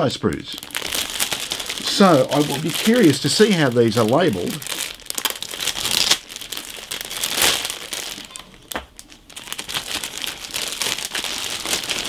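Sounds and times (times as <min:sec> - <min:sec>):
plastic bag crinkling: 0:00.2 - 0:12.0.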